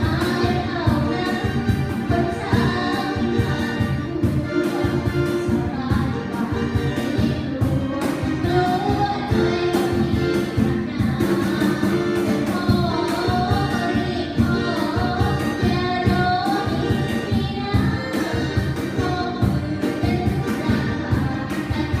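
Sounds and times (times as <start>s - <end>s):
live band playing: 0.0s - 22.0s
person singing: 0.0s - 22.0s.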